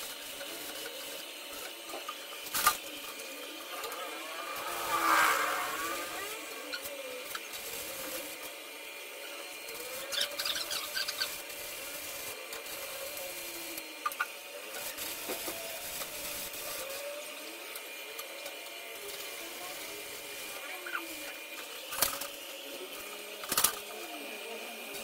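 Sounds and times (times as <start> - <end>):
arc welding crackle and hiss: 0.0 - 3.2, 6.8 - 25.0.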